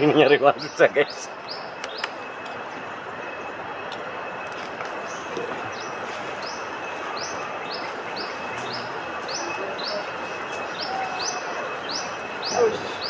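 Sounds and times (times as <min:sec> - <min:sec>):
bird chirping: 0:00.0 - 0:13.0
steady outdoor hiss: 0:00.0 - 0:13.0.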